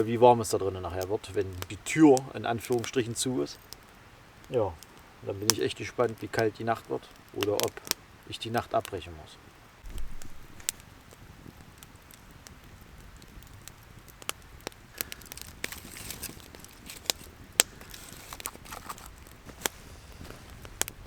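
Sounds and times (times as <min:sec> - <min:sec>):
campfire crackling: 0:00.0 - 0:21.0
faint hiss: 0:00.0 - 0:21.0.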